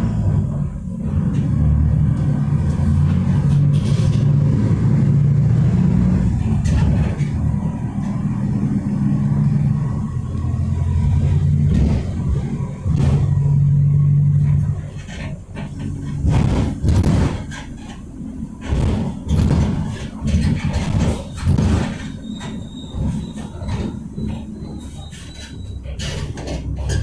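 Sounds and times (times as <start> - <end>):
bus engine running: 0.0 - 27.0
knocks and rattles: 1.1 - 27.0.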